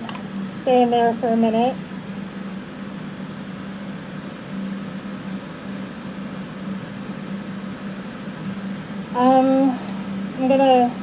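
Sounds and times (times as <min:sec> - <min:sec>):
electric fans running: 0:00.0 - 0:11.0.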